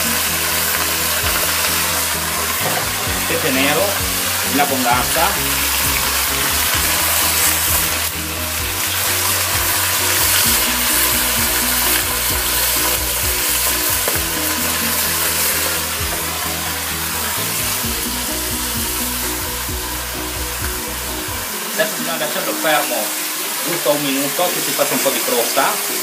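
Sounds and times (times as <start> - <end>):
fish frying in hot oil: 0.0 - 26.0.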